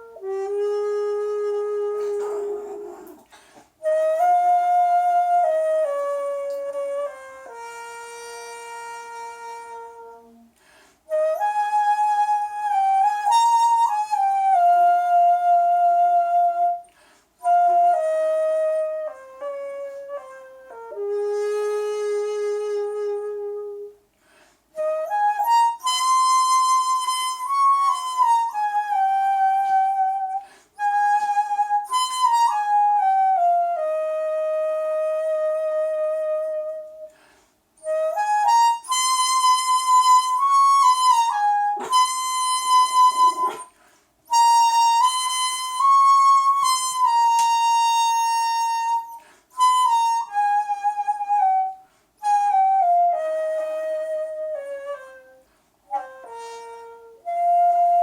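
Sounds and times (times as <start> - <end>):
bamboo flute solo melody: 0.0 - 3.2, 3.8 - 10.5, 11.1 - 16.8, 17.4 - 24.0, 24.8 - 37.2, 37.8 - 43.7, 44.3 - 58.0.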